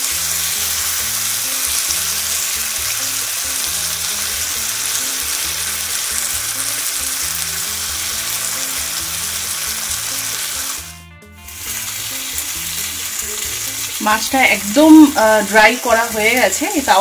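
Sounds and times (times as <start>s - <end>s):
fish sizzling in a pan: 0.0s - 17.0s.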